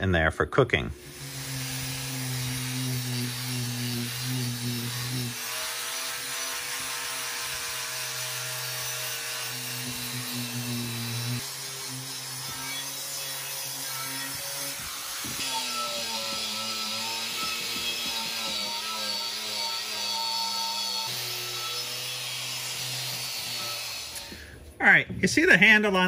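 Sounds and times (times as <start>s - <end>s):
angle grinder motor hum: 0.9s - 24.5s
grinder scraping cast iron: 1.0s - 24.6s.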